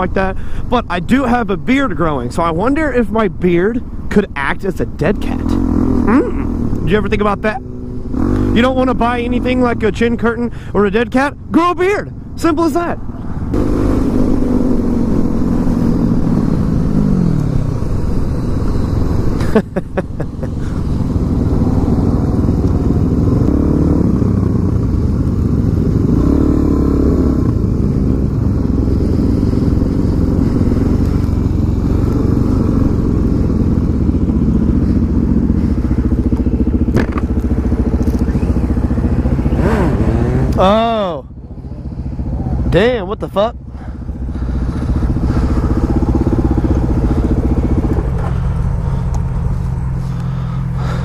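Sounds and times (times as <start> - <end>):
motorcycle engine revving: 5.0 - 11.5, 12.5 - 51.0.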